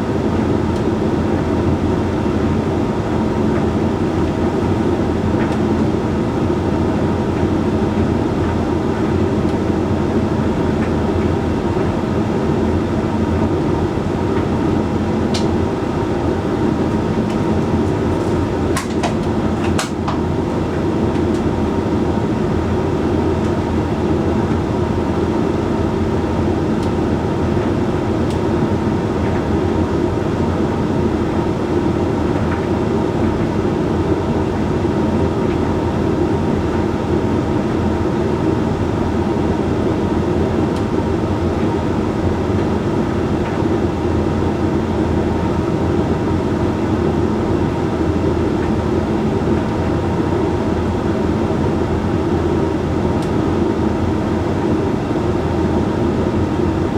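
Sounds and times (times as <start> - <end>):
tumble dryer humming and rumbling: 0.0 - 56.9.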